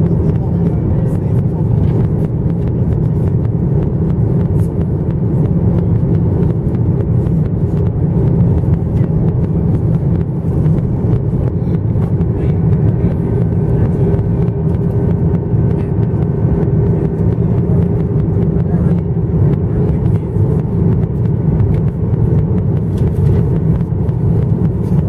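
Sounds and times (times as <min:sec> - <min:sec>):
airplane cabin rumble: 0:00.0 - 0:25.0
faint steady hum: 0:00.0 - 0:25.0.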